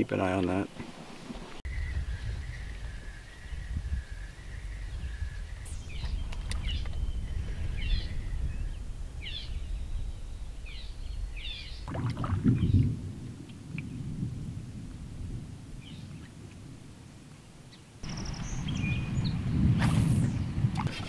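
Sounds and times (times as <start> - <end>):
songbirds calling: 0.0 - 13.0, 15.8 - 16.7, 17.3 - 21.0
distant thunder rumbling: 1.8 - 17.1, 18.0 - 20.8.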